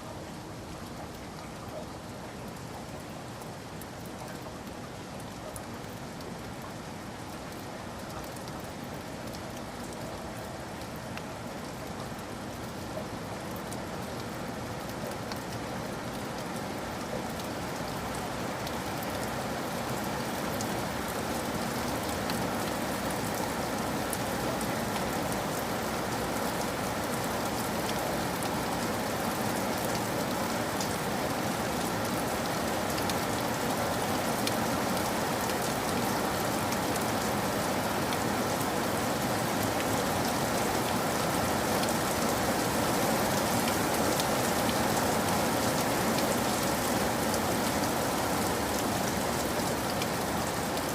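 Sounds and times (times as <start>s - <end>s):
rain pattering on surfaces: 0.0s - 50.9s.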